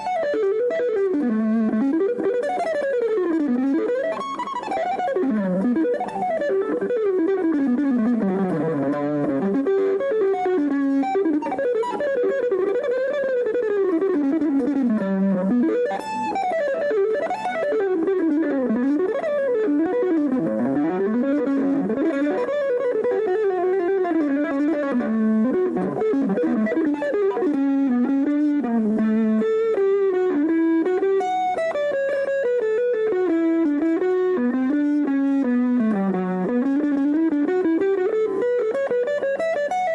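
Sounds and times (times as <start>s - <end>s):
electric guitar fast melodic runs: 0.0s - 39.9s.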